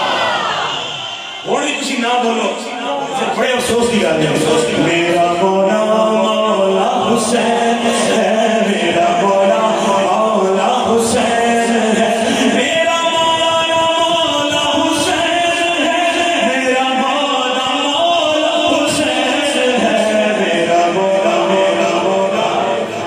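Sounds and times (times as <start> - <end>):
man singing unaccompanied: 3.4 - 23.0.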